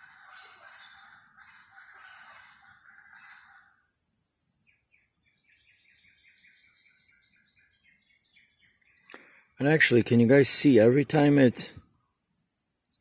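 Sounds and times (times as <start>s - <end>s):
bird chirping: 0.0s - 13.0s
insects droning: 0.0s - 13.0s.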